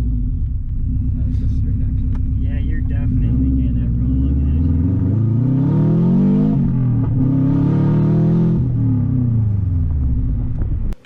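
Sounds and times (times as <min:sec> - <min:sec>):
raspy car engine revving: 0:00.0 - 0:11.0.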